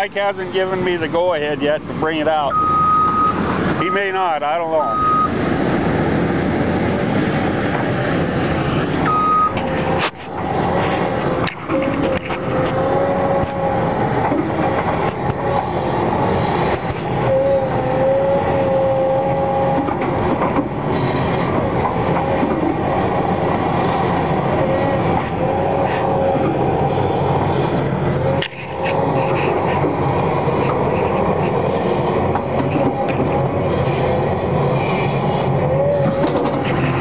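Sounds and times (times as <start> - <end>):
excavator diesel engine under load: 0.0 - 37.0
high steady hydraulic whine: 0.0 - 37.0.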